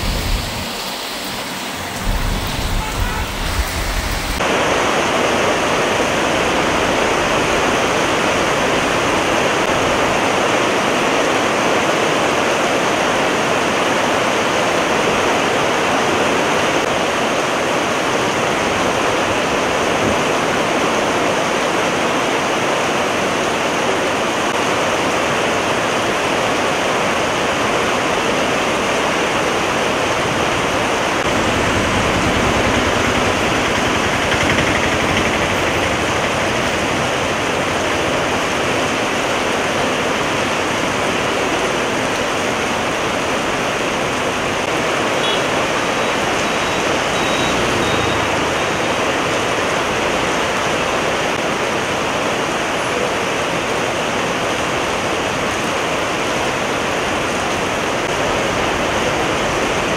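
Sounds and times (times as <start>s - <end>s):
heavy rain splashing on road: 0.0s - 59.9s.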